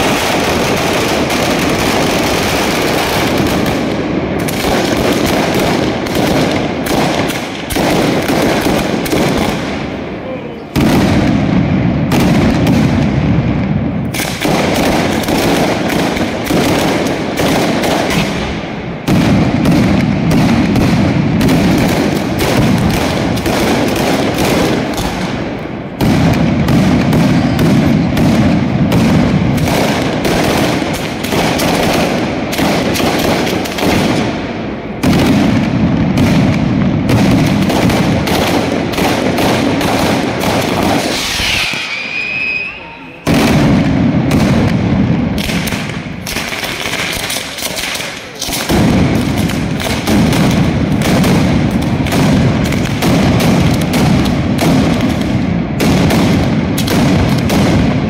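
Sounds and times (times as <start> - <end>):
firecrackers rattling: 0.0 - 58.0.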